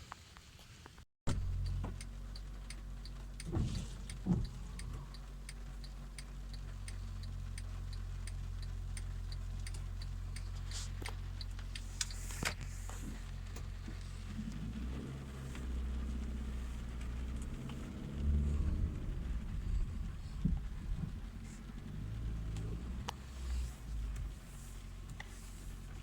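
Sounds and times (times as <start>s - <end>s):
car engine idling: 1.3s - 26.0s
turn signal ticking: 1.3s - 26.0s.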